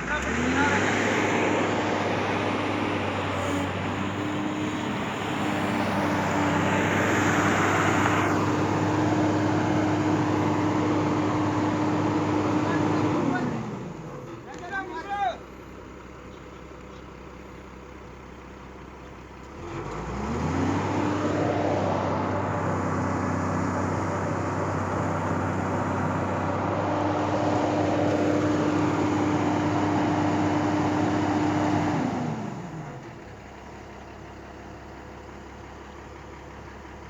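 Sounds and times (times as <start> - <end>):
excavator diesel engine revving: 0.0 - 37.0.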